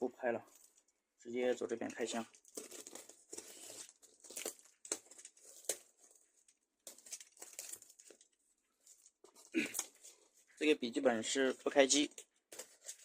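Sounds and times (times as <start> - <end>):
plastic and paper crinkling: 0.3 - 13.0.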